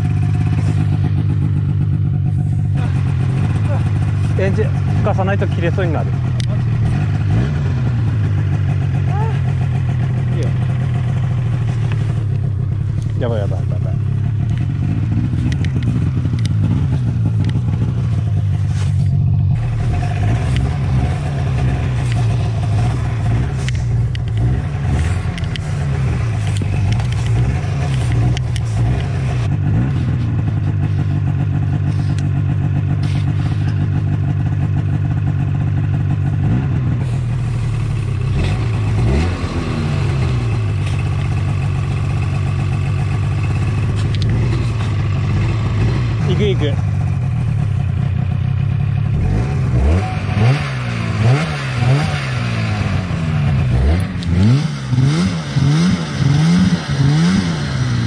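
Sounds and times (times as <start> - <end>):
snowmobile engine revving: 0.0 - 12.4, 13.0 - 31.2, 36.4 - 41.6, 43.8 - 47.7, 49.0 - 58.0.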